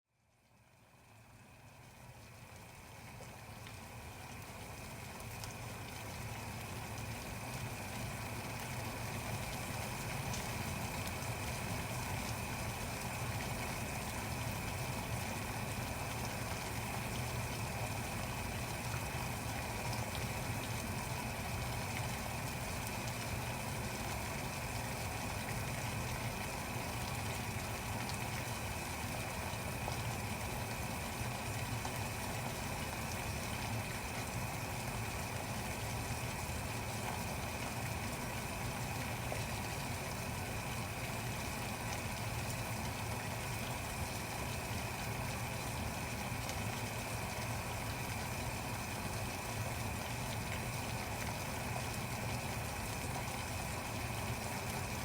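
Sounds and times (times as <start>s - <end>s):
water boiling: 0.2s - 55.0s.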